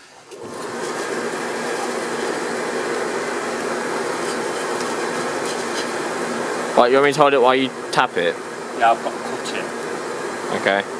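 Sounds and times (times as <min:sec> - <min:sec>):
hair dryer blowing air into forge: 0:00.0 - 0:10.9.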